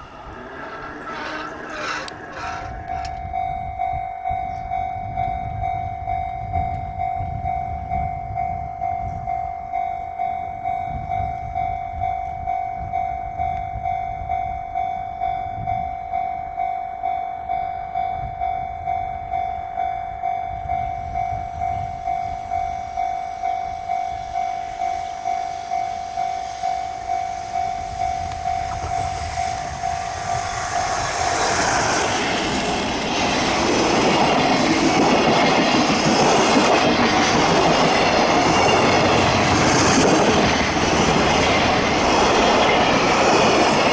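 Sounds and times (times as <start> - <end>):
train wheels and wagons passing: 0.0 - 13.9, 17.4 - 43.9.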